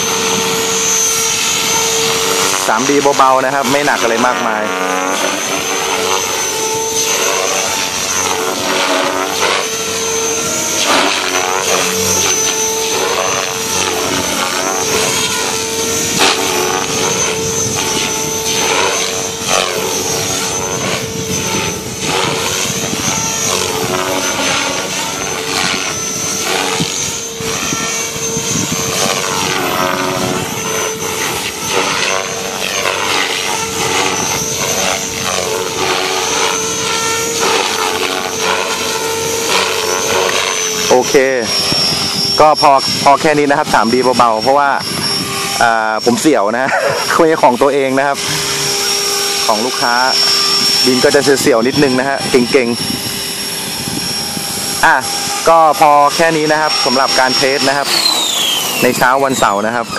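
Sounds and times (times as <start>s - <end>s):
high motor whine: 0.0s - 59.9s
rc helicopter rotor drone: 0.0s - 59.9s.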